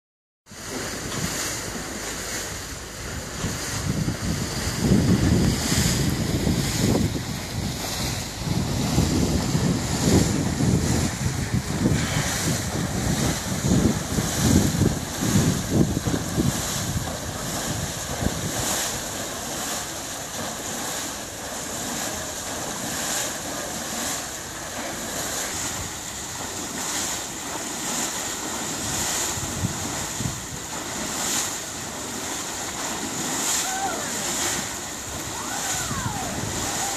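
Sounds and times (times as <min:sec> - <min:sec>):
propeller churning water: 0:00.4 - 0:36.9
wind buffeting microphone: 0:00.5 - 0:36.9.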